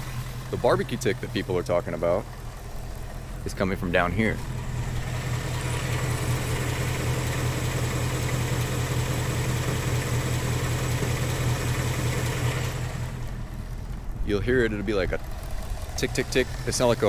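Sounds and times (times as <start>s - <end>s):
car engine idling: 0.0s - 17.0s
engine ticking: 0.0s - 17.0s.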